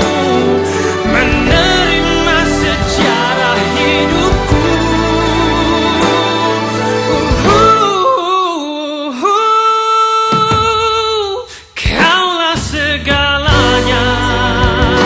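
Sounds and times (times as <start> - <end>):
love song with vibrato singing: 0.0 - 15.0.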